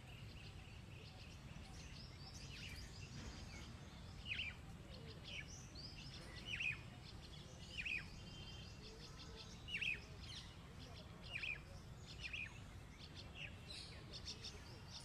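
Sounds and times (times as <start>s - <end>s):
small birds chattering: 0.0s - 15.0s.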